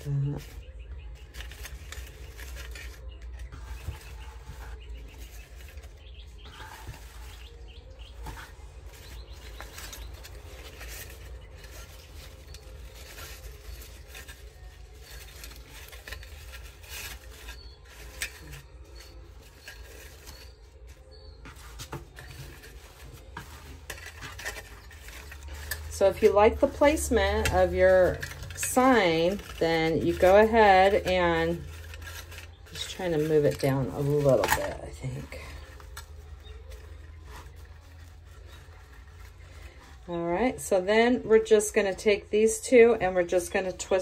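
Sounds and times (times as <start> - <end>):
plastic mesh rustling and crinkling: 0.0 - 41.2.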